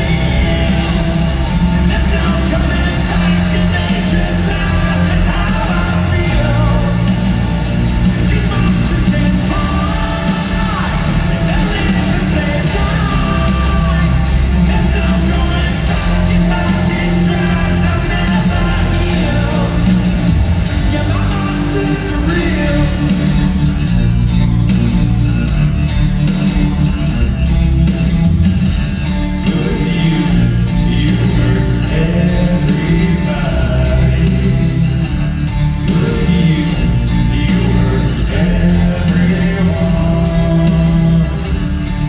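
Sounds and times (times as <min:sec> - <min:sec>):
lead singer: 0:00.0 - 0:24.4, 0:28.9 - 0:42.0
hard rock band playing live: 0:00.0 - 0:42.0.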